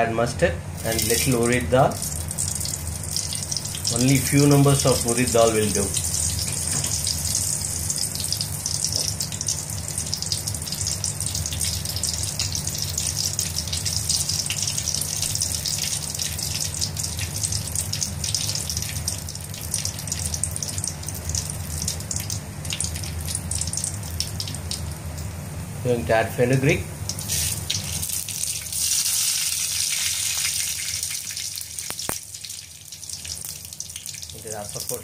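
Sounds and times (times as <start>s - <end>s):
steady low hum: 0.0s - 29.0s
seeds sizzling and popping in oil: 0.8s - 25.4s, 27.1s - 35.0s.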